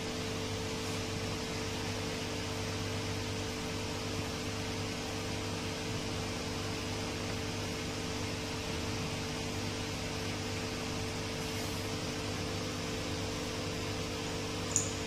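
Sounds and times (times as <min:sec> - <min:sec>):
steady hum with hiss: 0:00.0 - 0:15.0.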